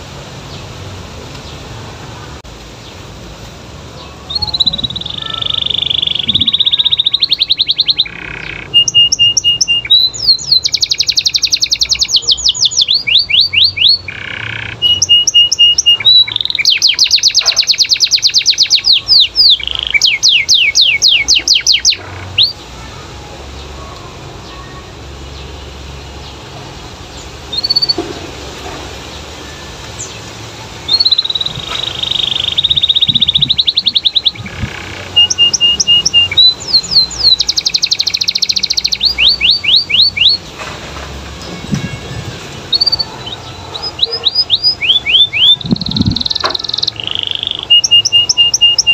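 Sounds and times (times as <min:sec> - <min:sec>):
canary singing in trills: 0:03.9 - 0:40.5, 0:41.4 - 0:48.9.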